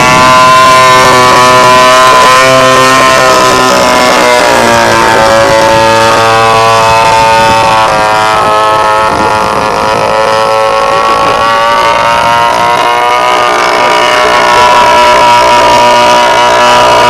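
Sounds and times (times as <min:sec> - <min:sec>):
model aeroplane motor running: 0:00.0 - 0:17.0.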